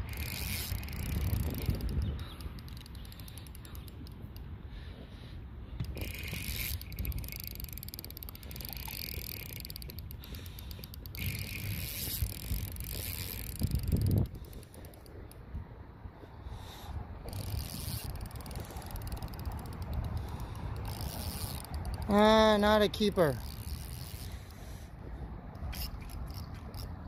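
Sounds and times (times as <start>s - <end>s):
fishing reel ticking whir: 0.0s - 5.0s, 5.7s - 27.0s
wind rumbling on microphone: 0.0s - 22.2s.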